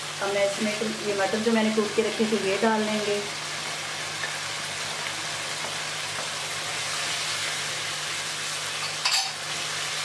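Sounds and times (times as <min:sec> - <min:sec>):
curry sizzling in a pan: 0:00.0 - 0:10.0.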